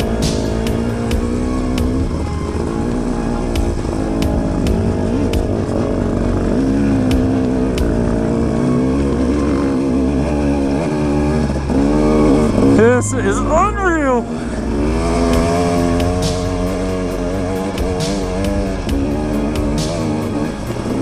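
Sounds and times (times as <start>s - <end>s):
dirt bike engine revving: 0.0s - 13.4s, 14.2s - 21.0s.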